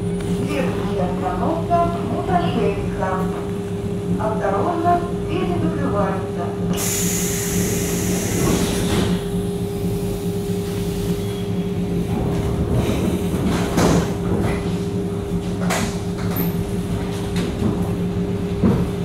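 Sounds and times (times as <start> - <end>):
low train rumble: 0.0 - 19.0.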